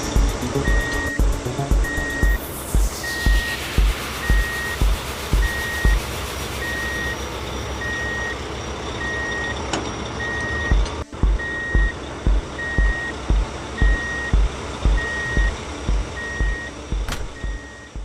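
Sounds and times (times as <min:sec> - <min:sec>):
background music with thumping beat: 0:00.0 - 0:07.2, 0:10.6 - 0:18.0
truck reversing alarm beeping: 0:00.5 - 0:18.0.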